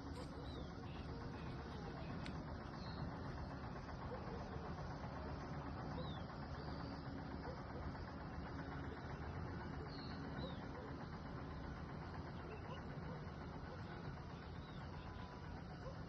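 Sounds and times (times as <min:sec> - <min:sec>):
faint bird chirps: 0:00.0 - 0:16.0
steady background rush of noise: 0:00.0 - 0:16.0.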